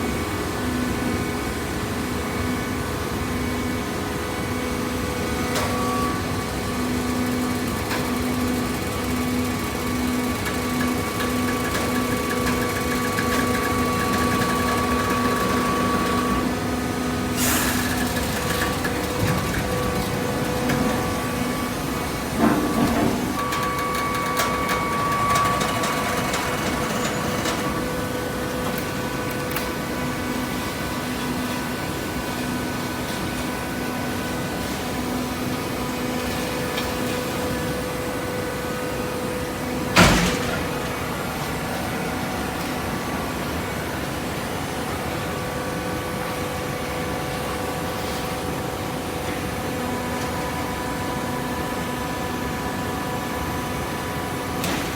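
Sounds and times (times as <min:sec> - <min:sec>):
hydraulic power unit humming: 0:00.0 - 0:54.9.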